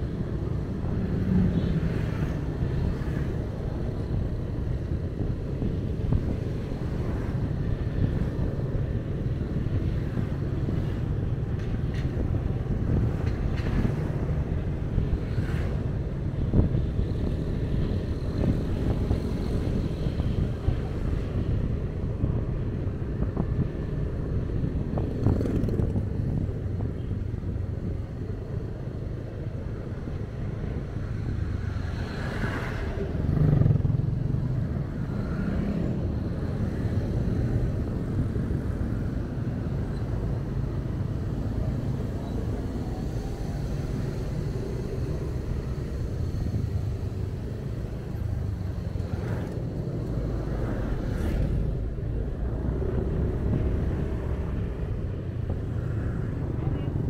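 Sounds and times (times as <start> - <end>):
traffic rumble of engines and tyres: 0.0 - 57.0.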